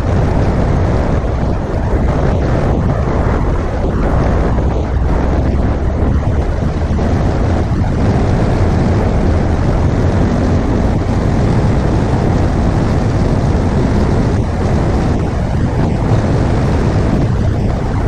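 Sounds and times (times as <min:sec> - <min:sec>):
motorcycle engine running: 0:00.0 - 0:18.0
wind rushing over microphone: 0:00.0 - 0:18.0.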